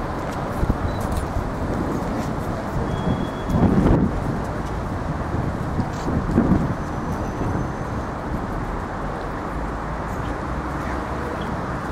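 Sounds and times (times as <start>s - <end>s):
low city rumble: 0.0s - 11.9s
wind on microphone: 0.0s - 11.9s.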